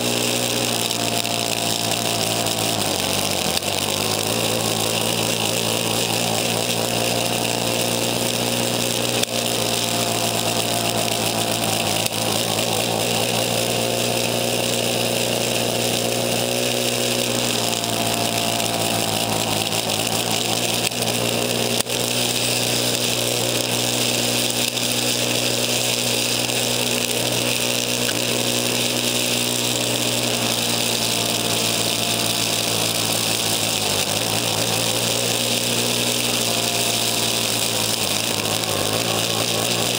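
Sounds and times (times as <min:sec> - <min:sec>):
snowblower engine running: 0:00.0 - 0:39.9
snow hiss from chute: 0:01.4 - 0:39.9.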